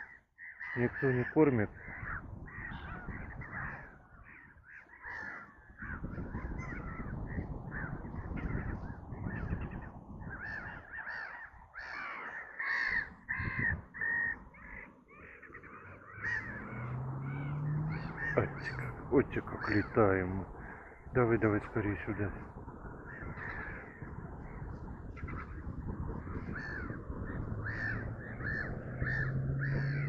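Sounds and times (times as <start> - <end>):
gulls calling: 0.0 - 30.0.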